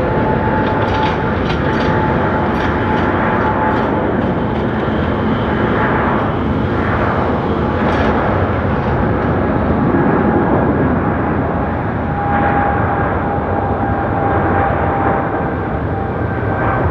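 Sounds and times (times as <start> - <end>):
jet engines roaring: 0.0 - 16.9
thin steady whine: 0.0 - 16.9.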